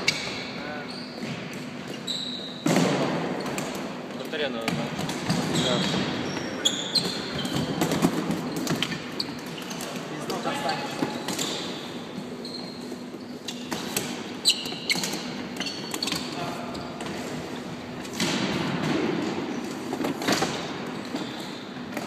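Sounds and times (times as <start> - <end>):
sneakers squeaking on floor: 0.0 - 22.0.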